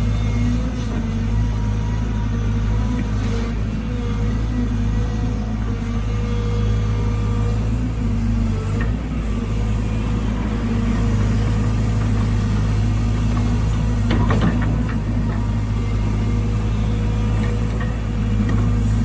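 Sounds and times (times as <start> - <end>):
excavator diesel engine drone: 0.0 - 19.0.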